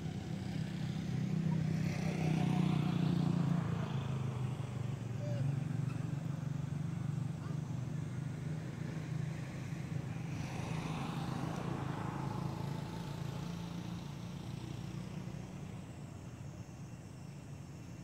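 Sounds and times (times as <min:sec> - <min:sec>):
motor vehicle passing by: 0:00.0 - 0:16.4.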